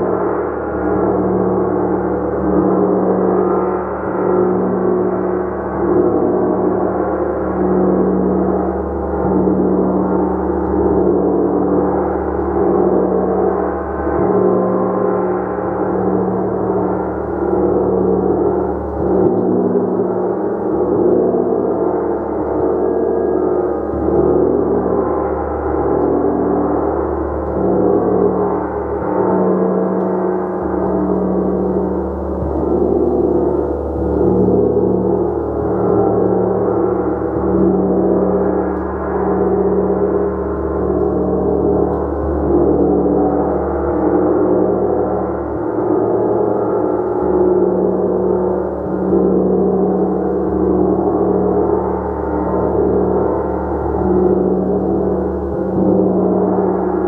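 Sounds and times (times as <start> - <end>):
gong shimmering: 0.0 - 57.0.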